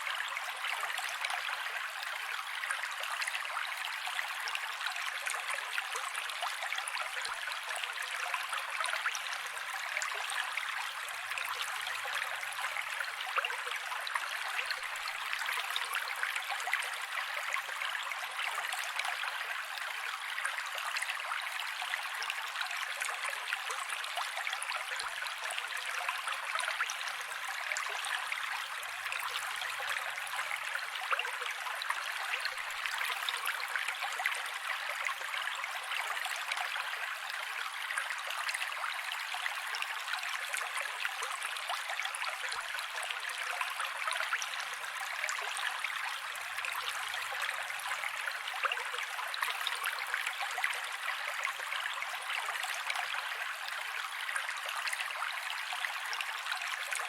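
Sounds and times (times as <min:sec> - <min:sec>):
creek water running over rocks: 0:00.0 - 0:57.0.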